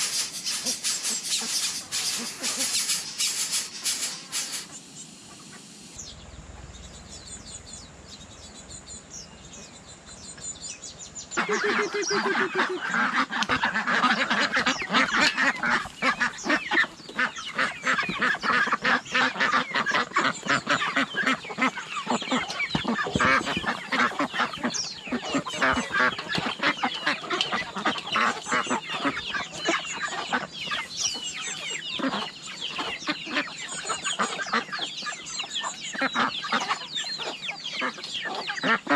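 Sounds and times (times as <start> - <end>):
chickens clucking: 0.0 - 6.7, 11.1 - 38.9.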